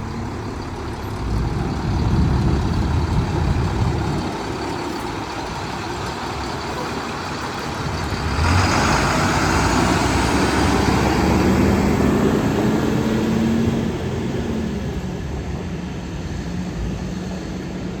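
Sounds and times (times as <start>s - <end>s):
dump truck engine running: 0.0s - 18.0s.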